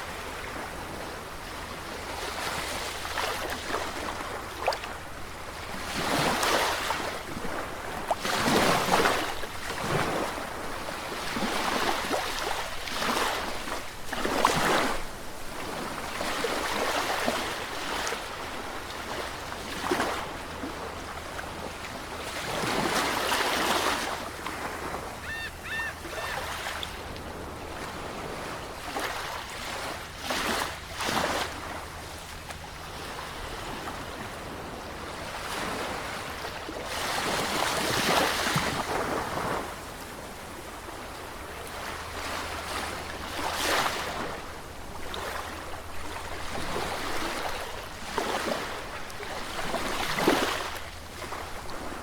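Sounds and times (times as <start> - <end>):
sea waves breaking: 5.6 - 32.1, 32.8 - 52.0.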